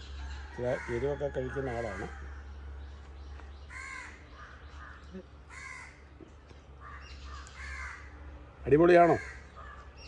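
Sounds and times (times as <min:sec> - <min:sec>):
crow cawing faintly: 0:00.5 - 0:02.8, 0:03.4 - 0:08.2, 0:08.9 - 0:10.0.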